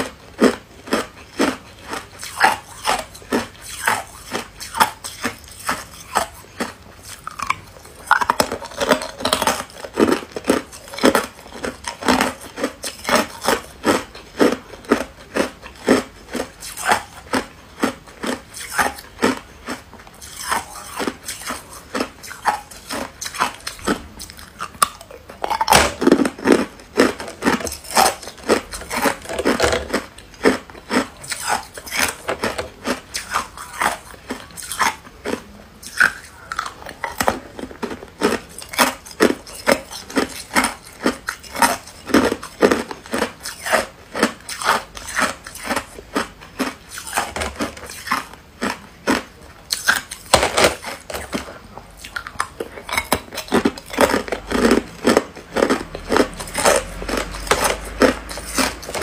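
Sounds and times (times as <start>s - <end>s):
ice cubes crunched by teeth: 0.0s - 59.0s.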